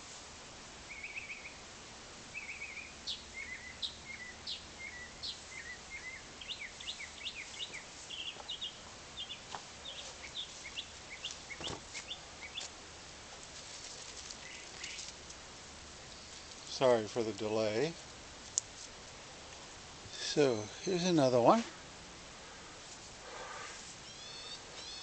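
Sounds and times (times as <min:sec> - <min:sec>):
small birds chirping: 0:00.9 - 0:01.6, 0:02.3 - 0:25.0.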